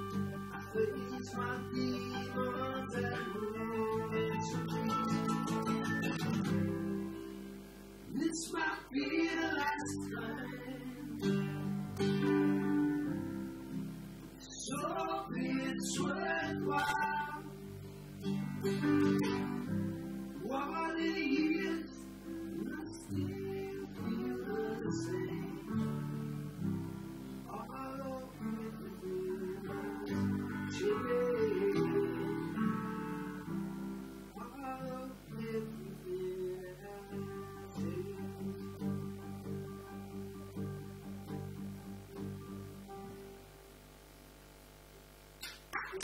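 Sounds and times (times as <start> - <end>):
digital piano playing: 0.0 - 7.6, 8.5 - 43.6
acoustic guitar strumming: 0.0 - 43.8.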